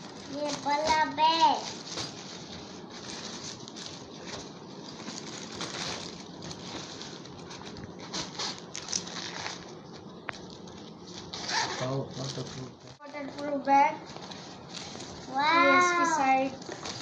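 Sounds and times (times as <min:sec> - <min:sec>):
sharp plastic crackles: 0:00.0 - 0:15.4, 0:16.2 - 0:17.0
plastic bag rustling and crinkling: 0:00.0 - 0:17.0.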